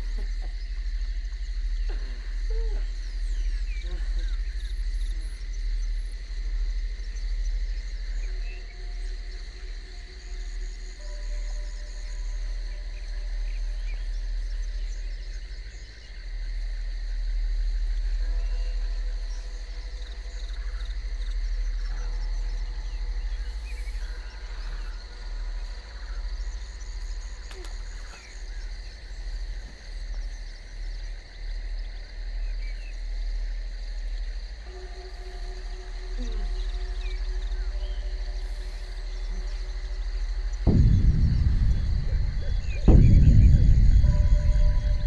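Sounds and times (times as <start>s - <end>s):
ambient film score drone: 0.0s - 45.0s
insects chirring: 0.0s - 45.0s.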